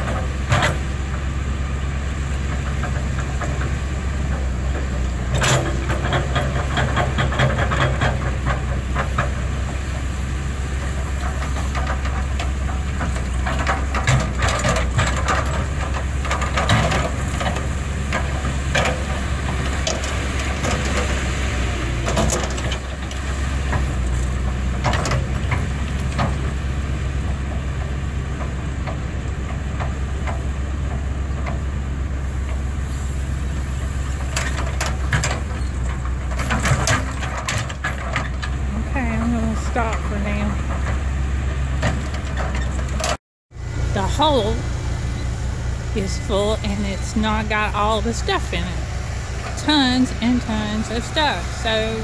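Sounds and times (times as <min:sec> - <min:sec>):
bucket clanking and scraping dirt: 0:00.0 - 0:52.0
excavator diesel engine running: 0:00.0 - 0:52.0.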